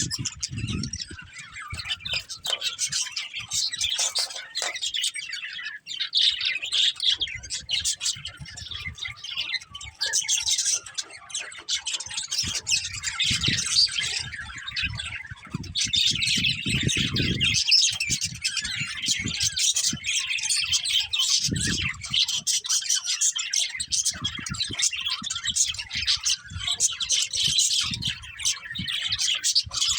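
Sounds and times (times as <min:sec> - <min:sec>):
budgerigars chirping and chattering: 0:00.0 - 0:29.9.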